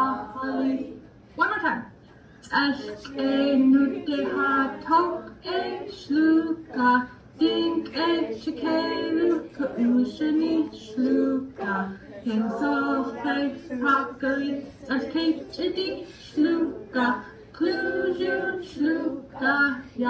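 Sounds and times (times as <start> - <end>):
women and children singing: 0.0 - 1.1, 2.4 - 20.0.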